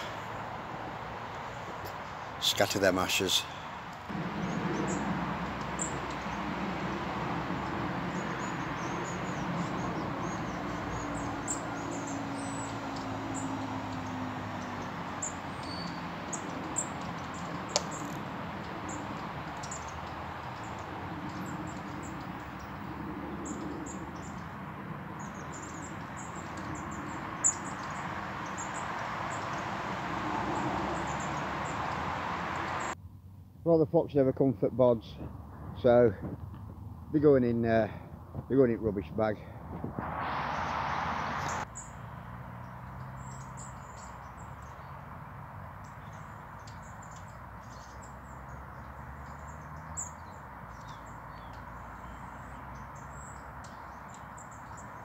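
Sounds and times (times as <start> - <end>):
small birds chirping: 0.0 - 33.0, 41.4 - 55.0
steady outdoor rush: 0.0 - 55.0.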